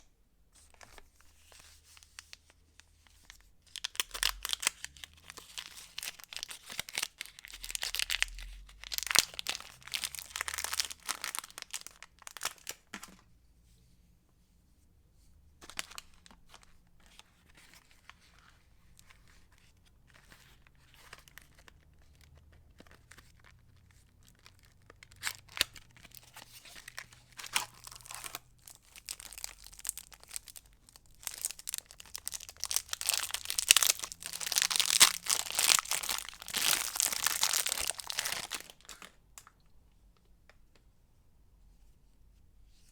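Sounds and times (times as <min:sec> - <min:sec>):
packaging crinkling by hand: 0:00.6 - 0:13.2, 0:15.6 - 0:39.6.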